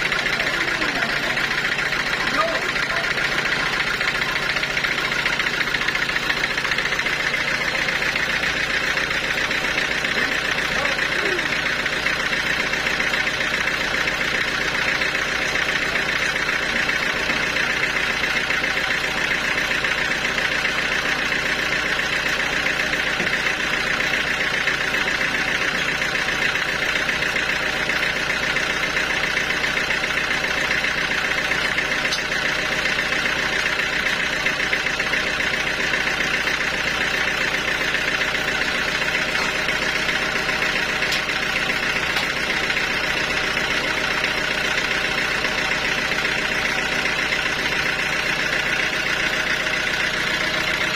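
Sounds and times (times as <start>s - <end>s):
sawmill machinery hum: 0.0s - 50.9s.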